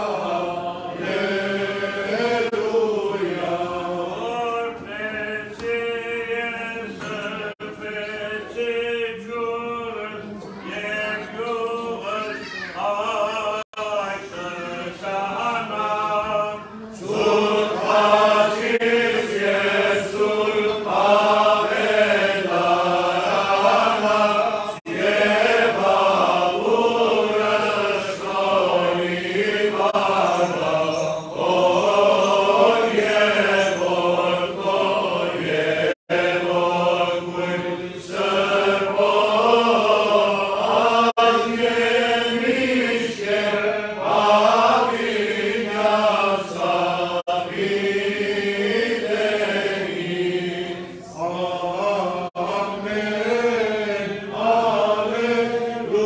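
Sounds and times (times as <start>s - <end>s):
men singing liturgical chant: 0.0s - 56.0s.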